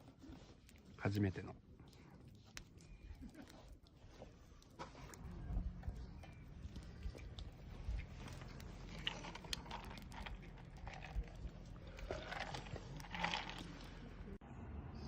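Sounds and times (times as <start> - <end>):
wood fire crackling: 0.0 - 14.4.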